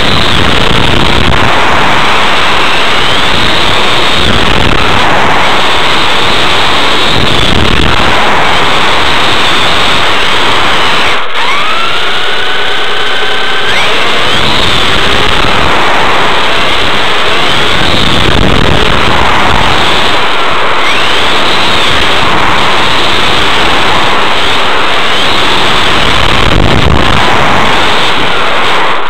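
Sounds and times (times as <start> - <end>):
electric motor whining: 0.0 - 29.0
rattle and tyre noise: 0.0 - 29.0.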